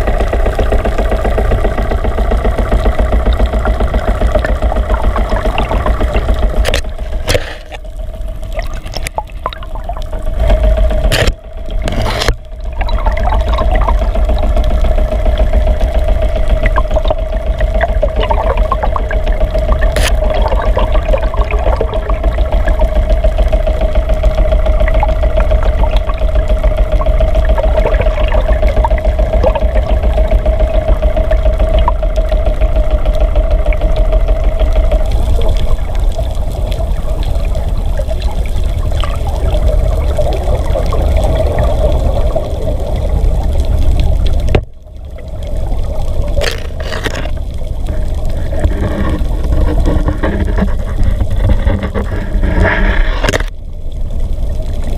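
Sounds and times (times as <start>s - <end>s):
steady hum: 0.0s - 54.9s
underwater rumble of moving water: 0.0s - 54.9s.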